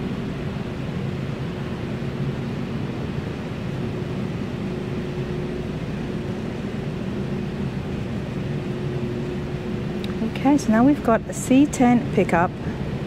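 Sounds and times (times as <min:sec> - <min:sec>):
ventilation drone: 0:00.0 - 0:13.0.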